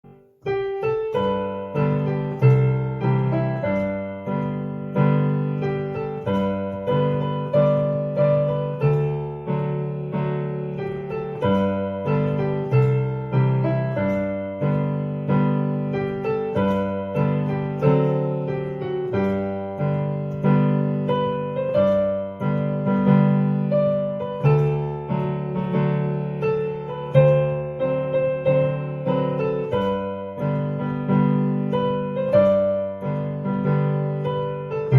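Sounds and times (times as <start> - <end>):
solo piano playing a hymn: 0.0 - 34.9.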